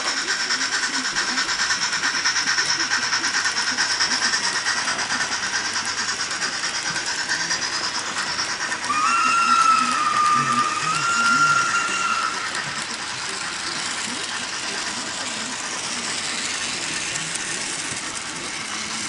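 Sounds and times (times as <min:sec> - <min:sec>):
model train rattling on track: 0:00.0 - 0:19.0.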